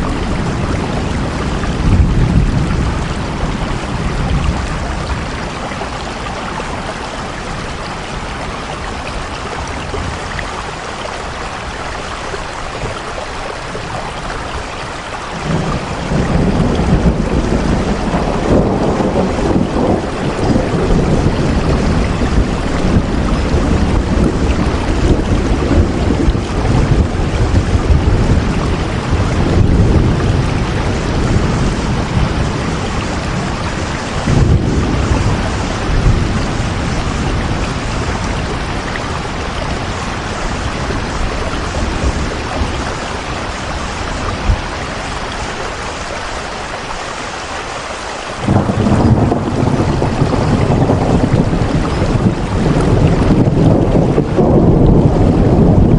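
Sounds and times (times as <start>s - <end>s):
thunder rumbling: 0.0s - 11.9s, 12.8s - 46.7s, 48.3s - 55.9s
heavy rain: 0.0s - 55.9s.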